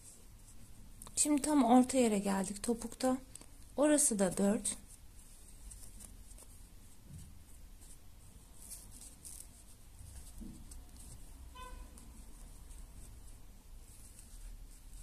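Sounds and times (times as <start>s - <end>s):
crochet hook scratching yarn: 0.0s - 15.0s.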